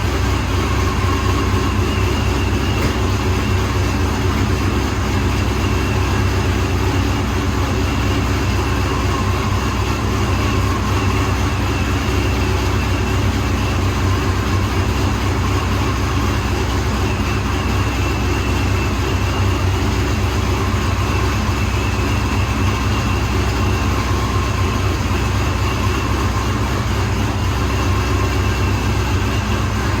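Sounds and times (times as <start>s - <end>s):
car engine idling with choppy lope: 0.0s - 30.0s.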